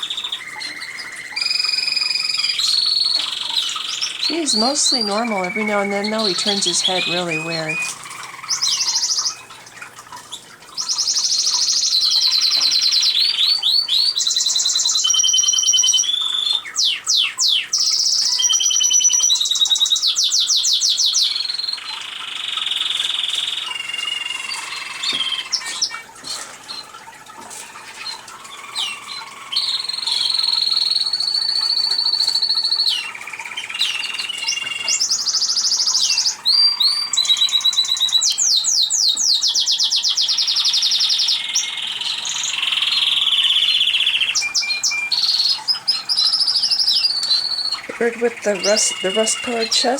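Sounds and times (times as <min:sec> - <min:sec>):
canary singing: 0:00.0 - 0:09.5, 0:10.3 - 0:26.0, 0:27.7 - 0:49.9.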